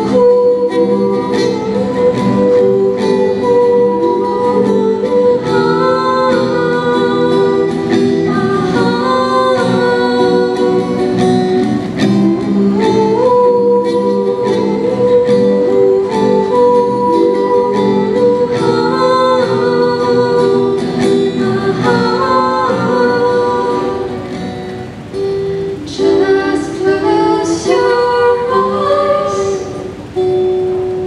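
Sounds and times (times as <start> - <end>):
girls singing into microphones: 0.0 - 30.2
strummed acoustic guitar: 0.0 - 31.0.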